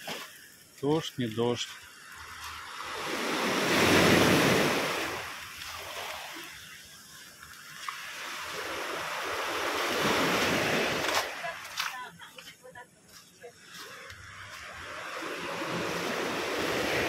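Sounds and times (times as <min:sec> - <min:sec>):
waves washing on pebble beach: 0:00.0 - 0:12.2, 0:13.6 - 0:17.0.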